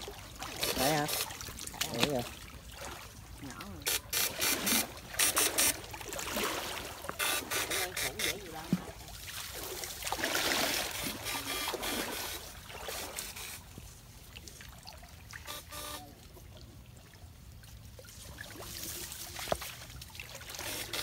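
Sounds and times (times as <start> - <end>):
stream water trickling: 0.0 - 21.0.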